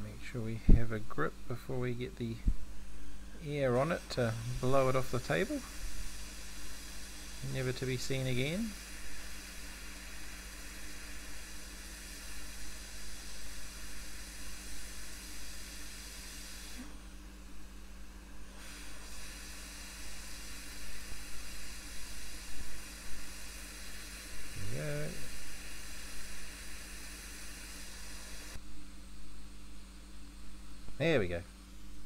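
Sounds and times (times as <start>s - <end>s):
hot air station hissing: 0.0s - 28.6s.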